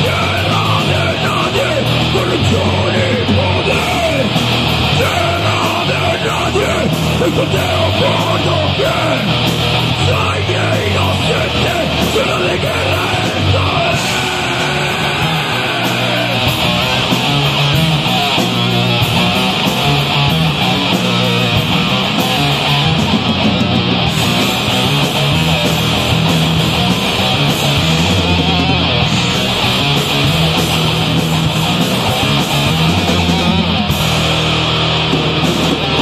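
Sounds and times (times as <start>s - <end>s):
distorted electric guitars: 0.0s - 36.0s
drum kit: 0.0s - 36.0s.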